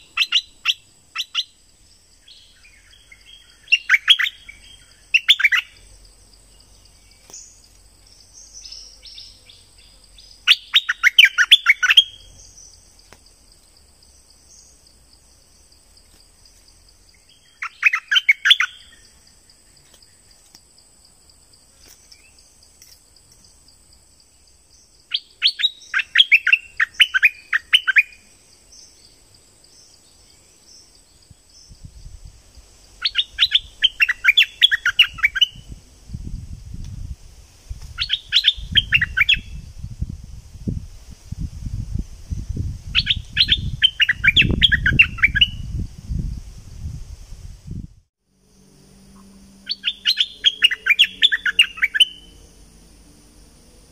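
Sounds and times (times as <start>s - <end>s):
bird song: 0.0s - 20.6s, 21.5s - 32.3s, 32.9s - 37.0s, 37.8s - 40.0s, 41.7s - 46.3s, 48.5s - 52.8s.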